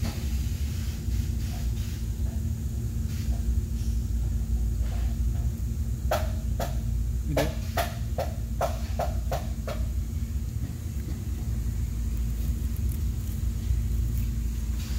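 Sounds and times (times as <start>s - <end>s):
faint hum: 0.0s - 14.9s.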